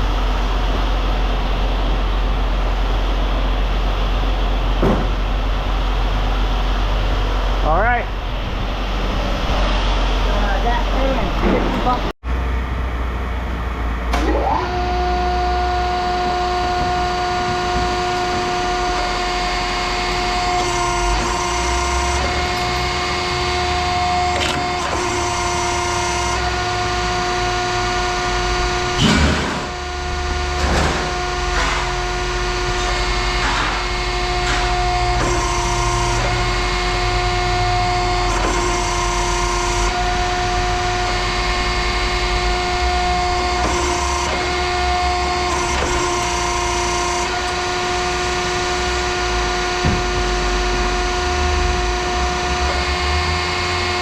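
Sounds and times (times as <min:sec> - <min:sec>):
heavy machinery whine and rumble: 0:00.0 - 0:54.0.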